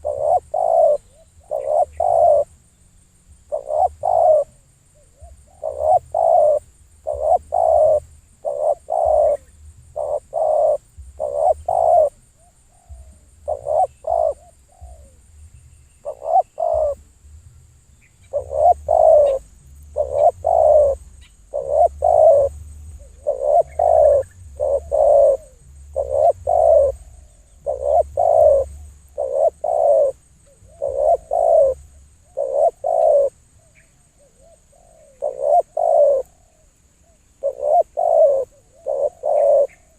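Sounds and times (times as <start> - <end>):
dove cooing: 0.0 - 2.6, 3.4 - 15.3, 16.0 - 17.0, 18.2 - 39.9
faint high-pitched whine: 0.0 - 39.9.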